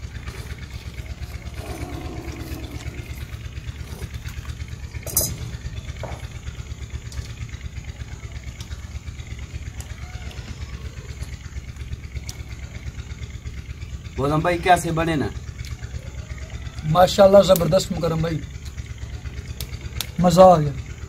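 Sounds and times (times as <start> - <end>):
engine chugging: 0.0 - 21.0.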